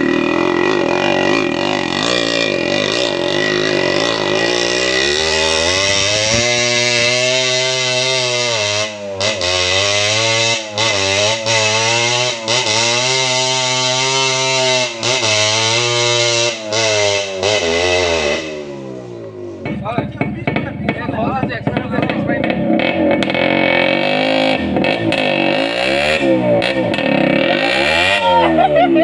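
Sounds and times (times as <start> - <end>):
two-stroke motorcycle engine revving: 0.0 - 29.0.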